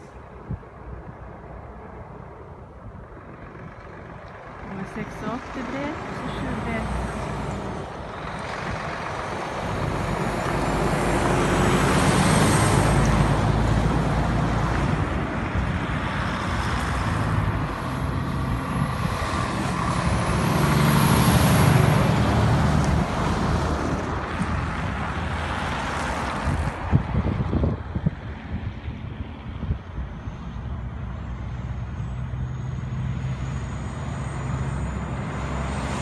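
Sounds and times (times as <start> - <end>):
diesel trucks driving past: 0.0 - 36.0.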